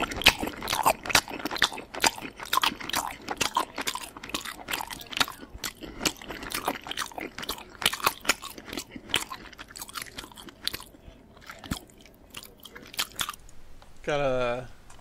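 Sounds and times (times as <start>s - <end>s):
person chewing pasta: 0.0s - 13.5s.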